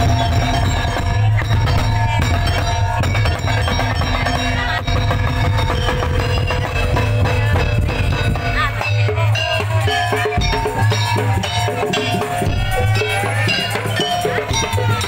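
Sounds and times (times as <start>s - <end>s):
parade music with drum beat: 0.0s - 15.0s.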